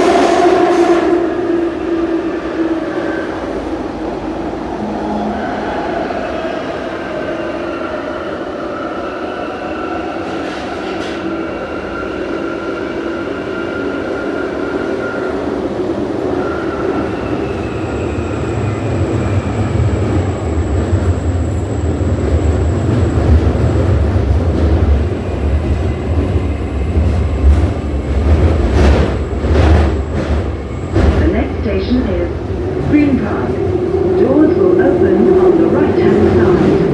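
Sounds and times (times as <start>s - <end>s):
heavy train rumble: 0.0s - 8.7s, 13.9s - 36.9s.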